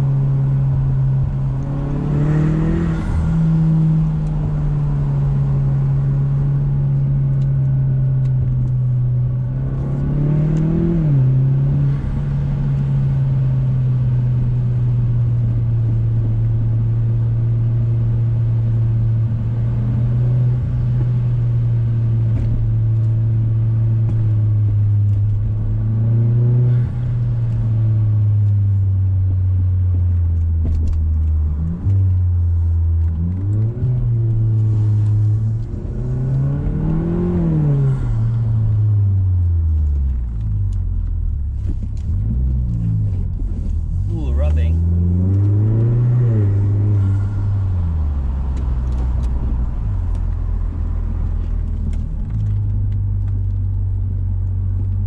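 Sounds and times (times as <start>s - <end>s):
car engine droning: 0.0s - 55.0s
tyre and road noise: 0.0s - 55.0s.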